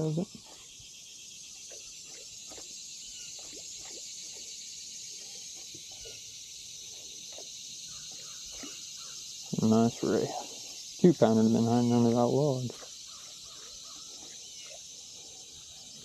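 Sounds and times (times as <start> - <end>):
faint chirps and ticks: 0.0 - 16.0
insects droning: 0.0 - 16.0.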